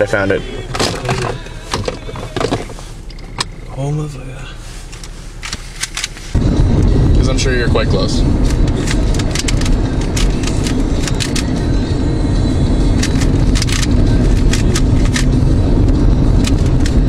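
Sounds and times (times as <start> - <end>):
car rumble inside cabin: 0.0 - 17.0.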